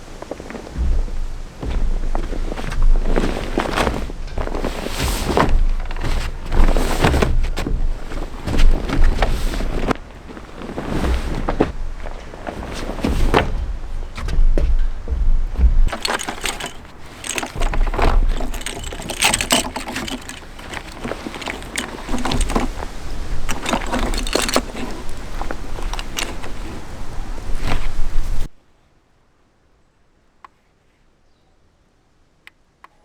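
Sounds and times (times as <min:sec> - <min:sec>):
low rumbles: 0:00.0 - 0:28.5
gear knocking and clinking: 0:00.1 - 0:28.1.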